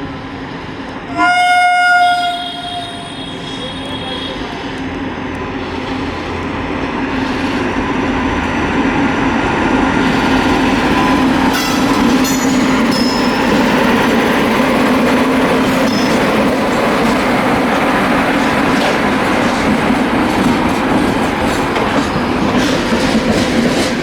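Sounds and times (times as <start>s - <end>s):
train wheels rumbling and clattering: 2.4s - 24.0s.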